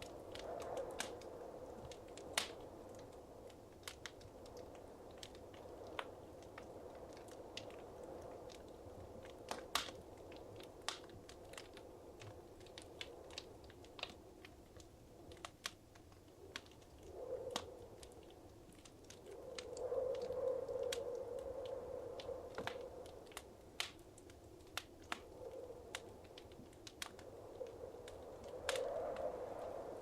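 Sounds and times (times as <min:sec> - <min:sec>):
fire crackling and popping: 0:00.0 - 0:30.0
rushing of flames: 0:00.0 - 0:30.0.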